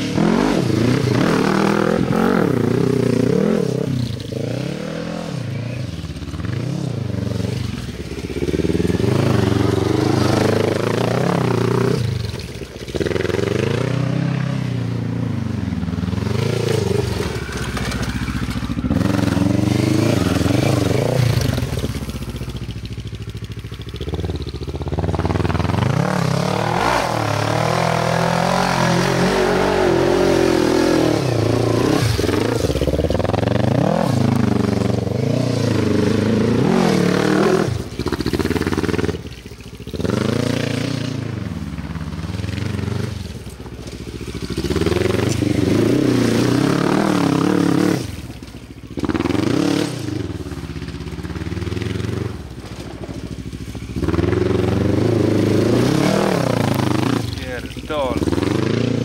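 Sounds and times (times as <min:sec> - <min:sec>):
quad engine revving: 0:00.0 - 0:22.8, 0:23.7 - 0:43.7, 0:44.4 - 0:59.0.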